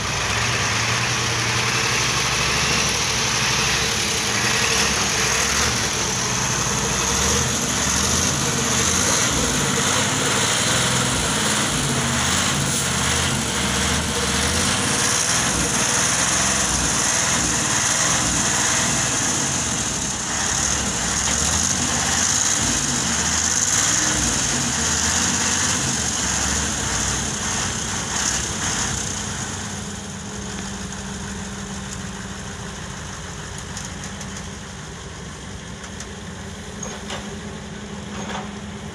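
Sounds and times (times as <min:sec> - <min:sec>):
dump truck driving through mud: 0:00.0 - 0:38.9
excavator working: 0:00.0 - 0:38.9.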